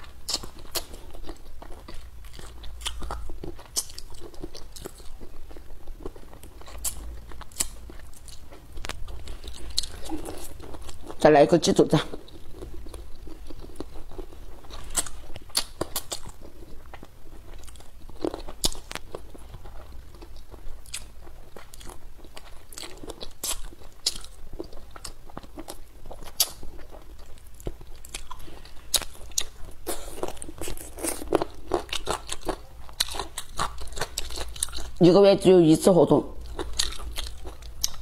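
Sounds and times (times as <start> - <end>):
person chewing with crunches: 0.0 - 35.1, 36.4 - 38.0.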